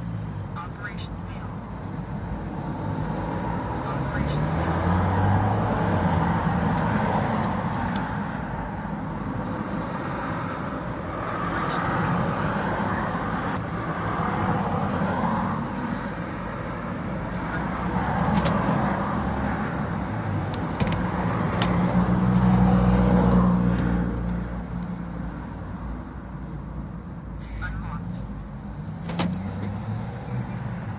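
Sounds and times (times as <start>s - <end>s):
vehicles passing: 0.0s - 30.9s.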